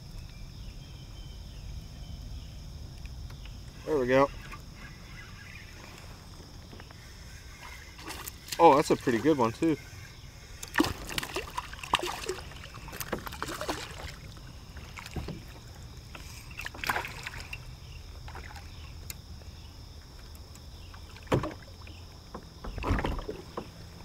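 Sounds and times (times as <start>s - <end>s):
water noise: 0.0s - 24.0s
wind: 0.0s - 24.0s.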